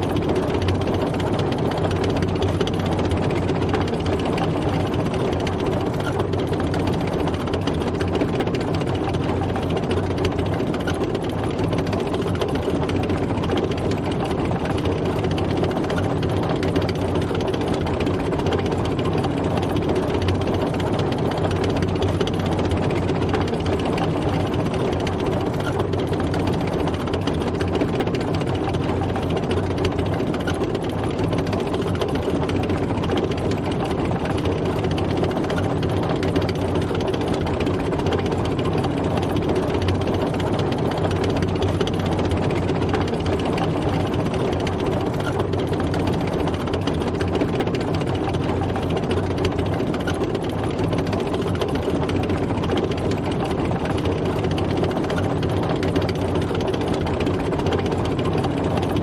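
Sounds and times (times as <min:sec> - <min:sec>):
tank engine droning: 0:00.0 - 0:59.0.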